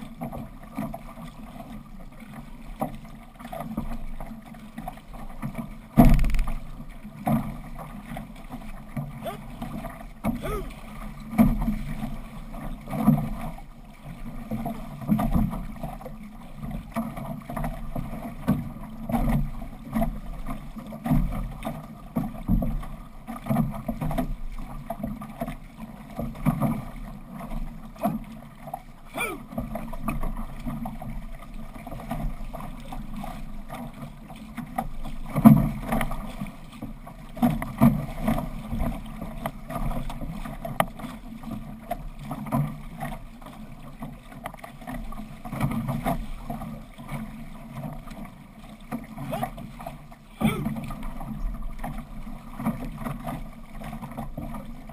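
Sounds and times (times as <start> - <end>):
paddle stroke surges: 0.0 - 54.9
water rushing against hull: 0.0 - 54.9.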